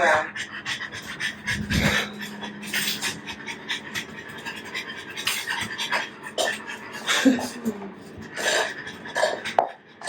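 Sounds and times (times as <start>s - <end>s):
dog panting: 0.0s - 7.2s, 8.2s - 10.0s
steady low hum: 0.0s - 10.0s.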